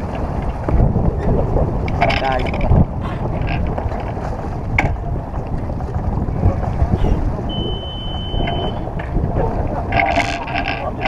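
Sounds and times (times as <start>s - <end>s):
water noise: 0.0s - 11.0s
wind buffeting microphone: 0.0s - 11.0s.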